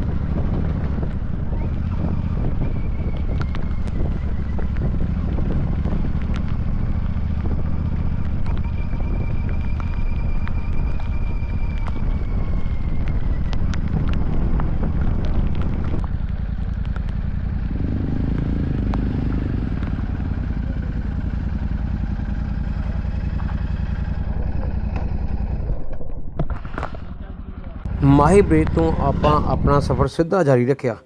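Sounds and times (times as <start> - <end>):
motorcycle engine running: 0.0 - 30.1.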